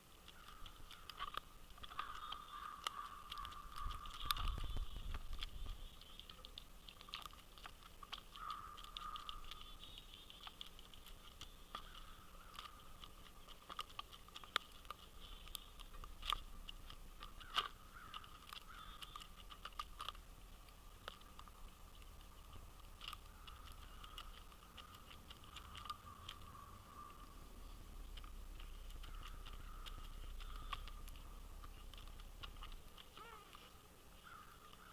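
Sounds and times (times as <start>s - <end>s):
birds pecking at seed: 0.0s - 34.9s.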